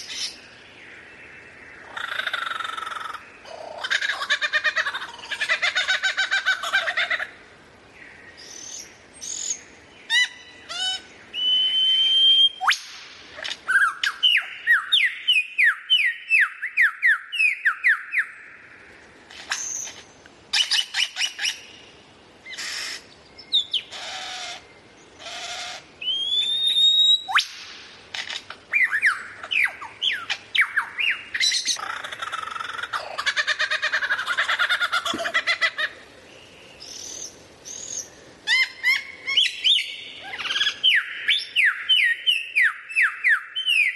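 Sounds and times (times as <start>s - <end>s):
songbird singing: 0.0s - 43.9s.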